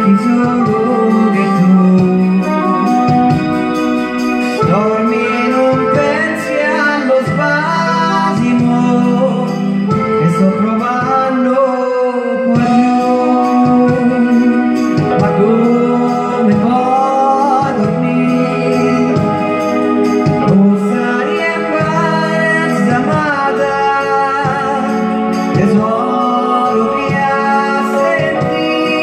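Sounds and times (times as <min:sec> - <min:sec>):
keyboard chords: 0:00.0 - 0:29.0
man singing into microphone: 0:00.0 - 0:29.0.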